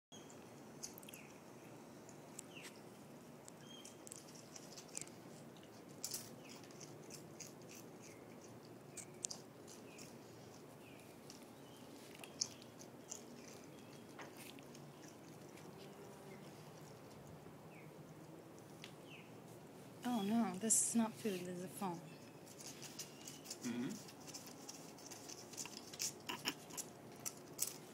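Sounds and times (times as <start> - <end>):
raccoon crunching chips: 0.6 - 1.4, 2.0 - 18.9, 22.1 - 27.9.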